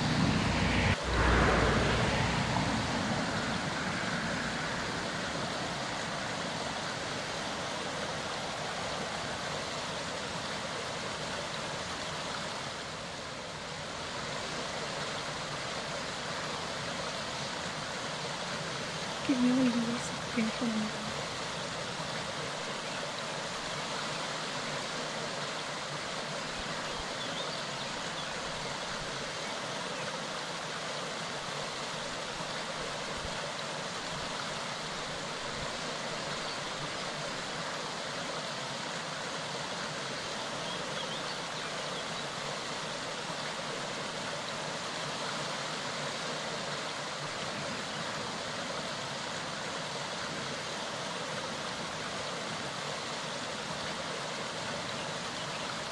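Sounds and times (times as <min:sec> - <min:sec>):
mountain stream rushing: 0:00.0 - 0:55.9.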